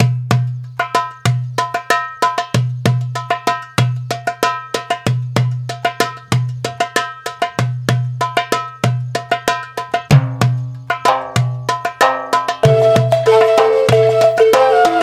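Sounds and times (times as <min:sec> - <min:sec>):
music with percussive beat: 0:00.0 - 0:15.0.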